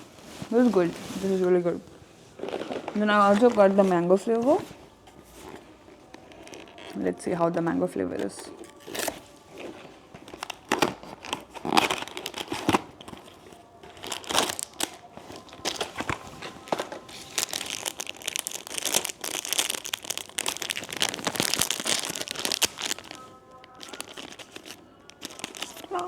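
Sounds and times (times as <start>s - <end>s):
plastic wrapper crinkling: 0.0s - 26.0s.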